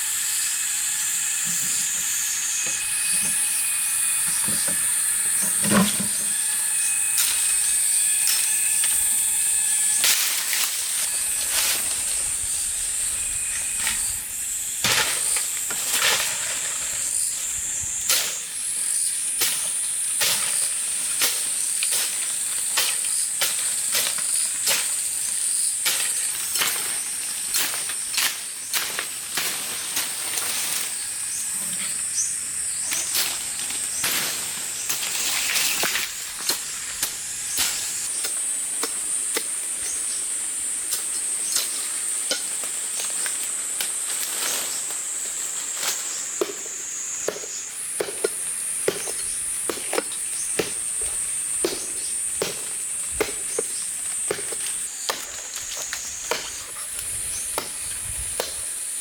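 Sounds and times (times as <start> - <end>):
insects buzzing: 0.0 - 59.0.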